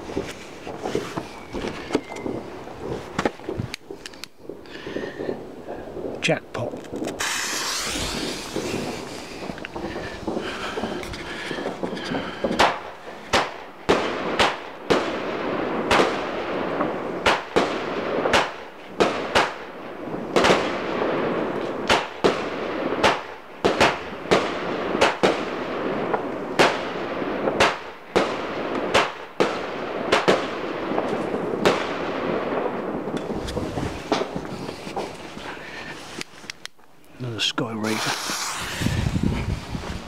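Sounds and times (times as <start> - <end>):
firework bangs: 0.0 - 36.6, 37.4 - 40.0
firework crackling: 0.0 - 40.0.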